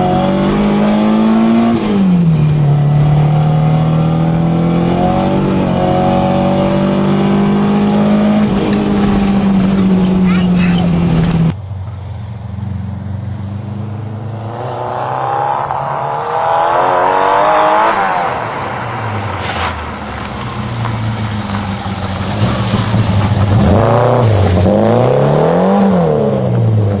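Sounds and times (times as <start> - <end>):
car engine revving: 0.0 - 11.6, 12.3 - 27.0.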